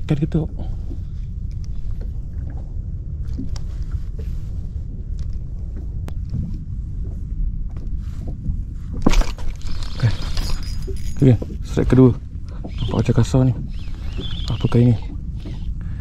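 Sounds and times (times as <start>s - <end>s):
low rumble of wind: 0.0s - 16.0s
water around a boat: 0.0s - 16.0s.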